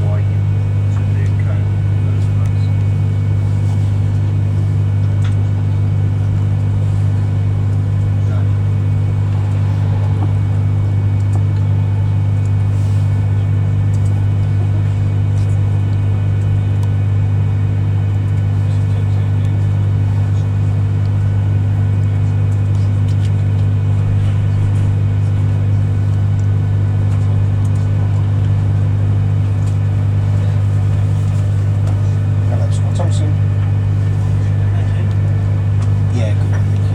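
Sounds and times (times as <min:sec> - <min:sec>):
train interior rumble and hum: 0:00.0 - 0:36.9.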